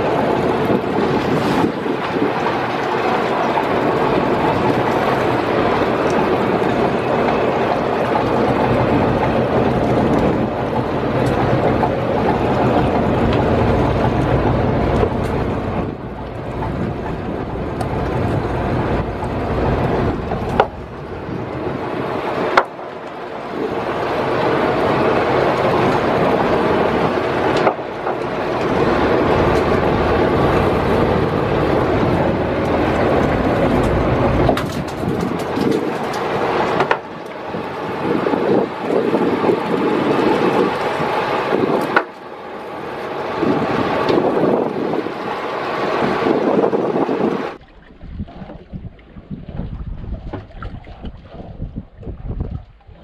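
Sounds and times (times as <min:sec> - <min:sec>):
water washing against boat hull: 0:00.0 - 0:53.0
wind on microphone: 0:00.0 - 0:53.0.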